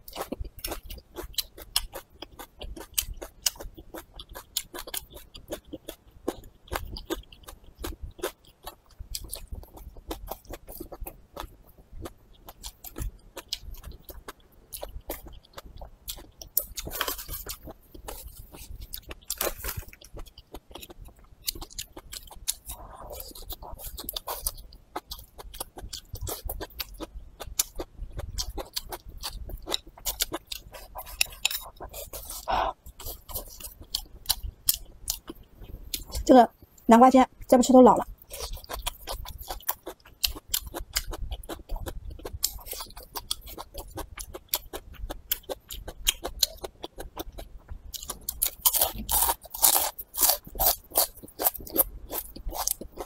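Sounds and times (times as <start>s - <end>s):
wet chewing and lip smacking: 0.0s - 36.9s, 38.0s - 53.0s.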